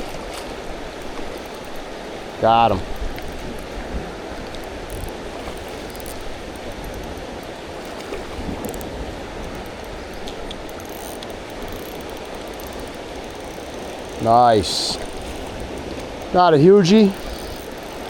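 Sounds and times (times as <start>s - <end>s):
faint ticks: 0.0s - 1.9s, 2.9s - 18.0s
river water rushing: 0.0s - 18.0s.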